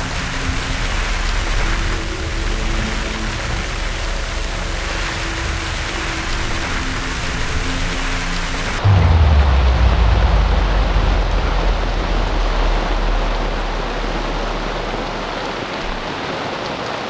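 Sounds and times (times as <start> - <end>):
deep rumble: 0.0 - 16.3
heavy rain falling: 0.0 - 17.0.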